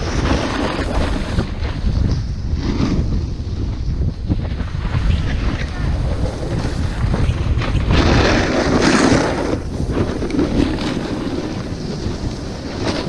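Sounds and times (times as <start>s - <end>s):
snowboard scraping on snow: 0.0s - 13.0s
wind buffeting microphone: 0.0s - 13.0s.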